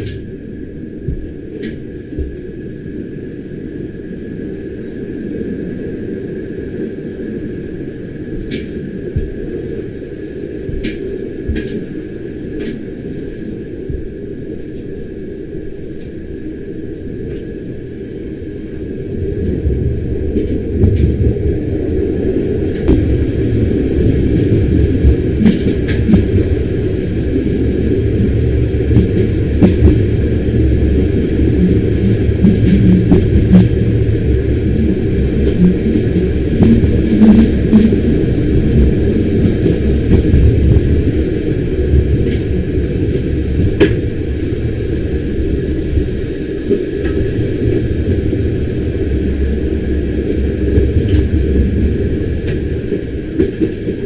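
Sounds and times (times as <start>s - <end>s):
faint steady whine: 0.0s - 54.0s
train low rumble: 0.0s - 54.0s.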